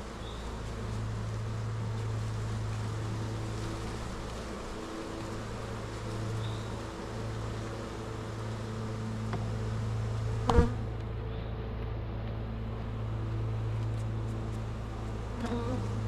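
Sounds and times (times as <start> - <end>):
honeybees buzzing: 0.0 - 11.6, 12.2 - 16.0.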